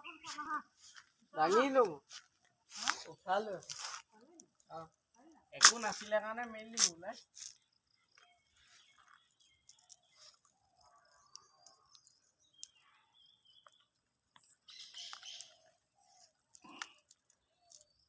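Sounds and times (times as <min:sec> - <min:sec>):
birds calling and chirping: 0:00.0 - 0:18.0.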